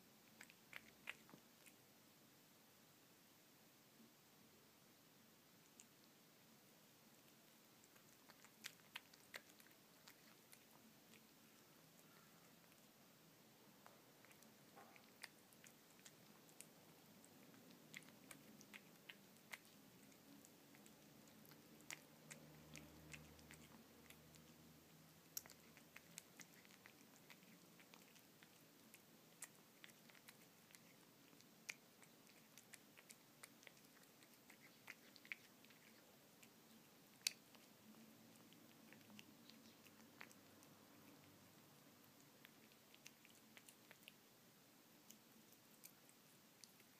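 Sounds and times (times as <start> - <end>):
cat chewing wet food: 0.0 - 2.4, 5.4 - 46.9.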